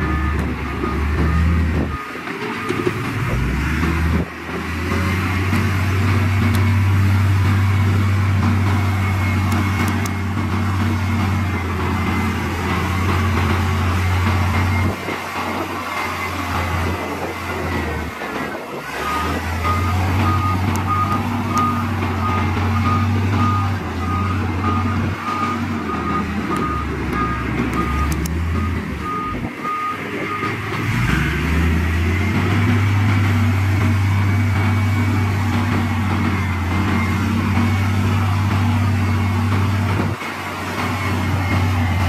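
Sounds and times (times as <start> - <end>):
heavy diesel machinery running: 0.0 - 42.0
reversing alarm beeping: 0.0 - 42.0.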